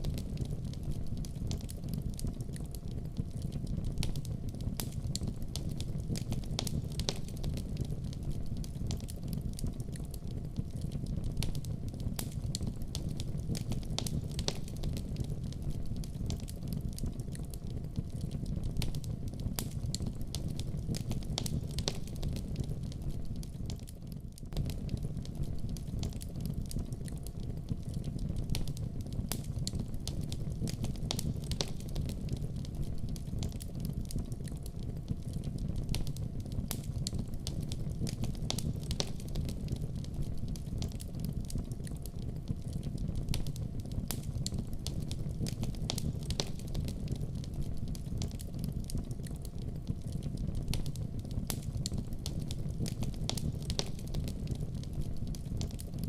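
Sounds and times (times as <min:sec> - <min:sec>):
fire popping and snapping: 0:00.0 - 0:56.0
low rumble of burning: 0:00.0 - 0:56.0.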